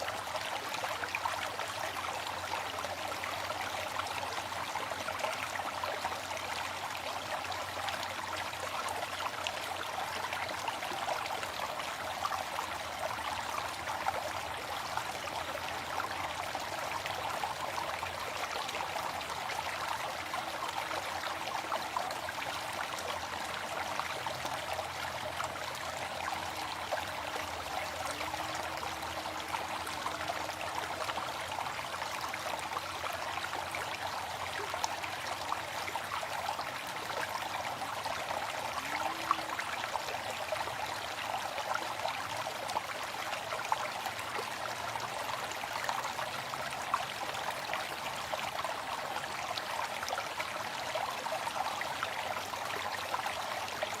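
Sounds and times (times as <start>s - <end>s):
small waterfall splashing: 0.0s - 54.0s.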